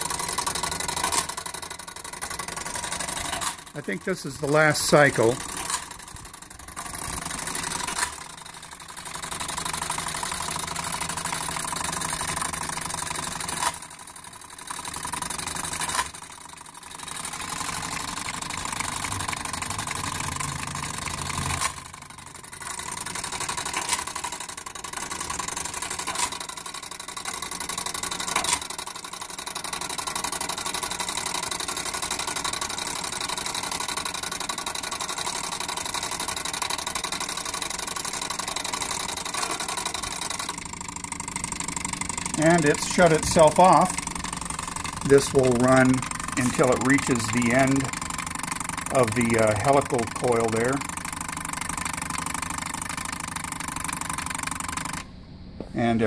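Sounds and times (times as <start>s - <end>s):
sharp mechanical clicks: 0.0s - 55.1s
alarm mechanism whirring rattle: 0.0s - 55.2s.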